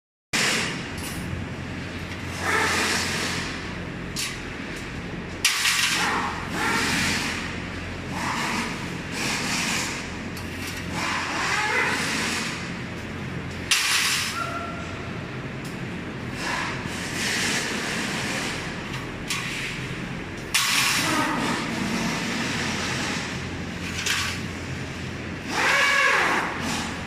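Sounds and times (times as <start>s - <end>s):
steady low hum: 0.4s - 25.6s.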